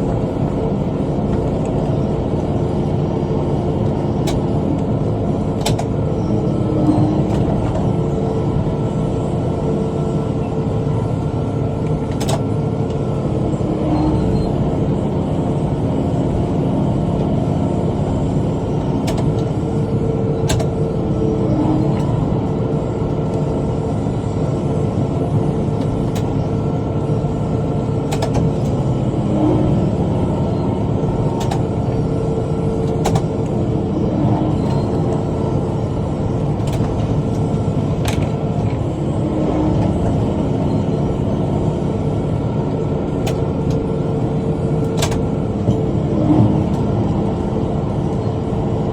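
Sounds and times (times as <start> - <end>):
tractor engine under load: 0.0 - 48.9.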